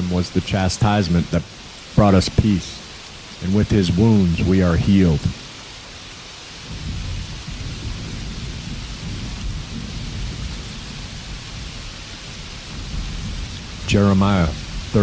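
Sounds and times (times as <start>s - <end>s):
rainfall hiss: 0.0s - 15.0s.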